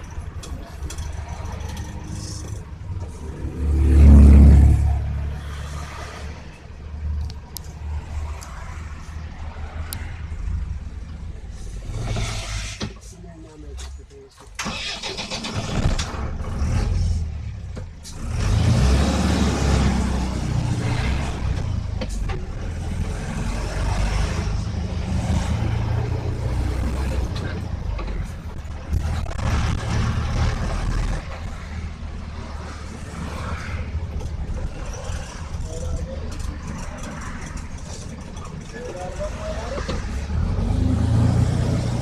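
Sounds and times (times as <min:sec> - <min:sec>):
heavy vehicle engine rumbling: 0:00.0 - 0:42.0.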